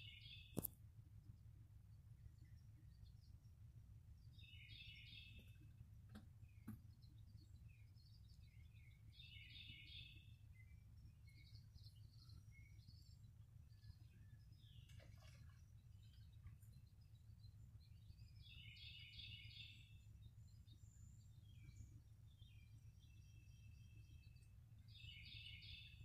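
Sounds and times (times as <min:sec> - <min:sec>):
songbird chirps and calls: 0:00.0 - 0:26.0.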